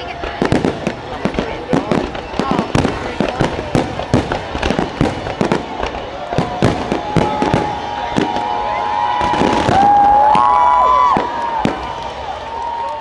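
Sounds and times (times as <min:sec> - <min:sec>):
fireworks bangs and crackles: 0:00.0 - 0:13.0
whistling firework shells: 0:00.2 - 0:13.0.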